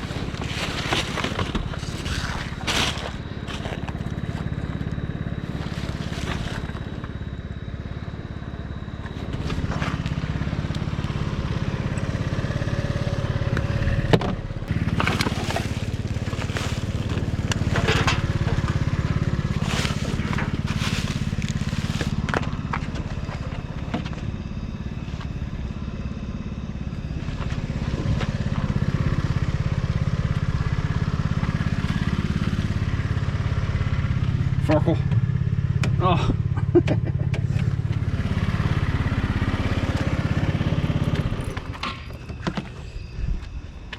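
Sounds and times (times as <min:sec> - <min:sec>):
low engine hum: 0:00.0 - 0:43.9.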